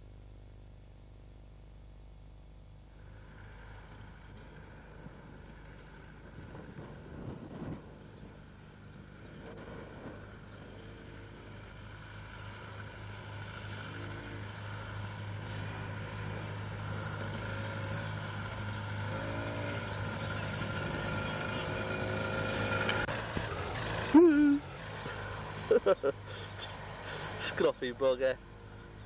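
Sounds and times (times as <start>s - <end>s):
small motorbike engine approaching: 2.8s - 29.0s.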